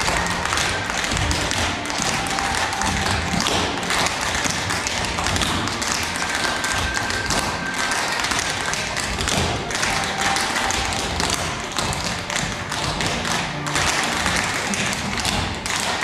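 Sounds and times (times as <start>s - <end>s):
faint music: 0.0s - 16.0s
tap shoes stomping on stage floor: 0.0s - 16.0s.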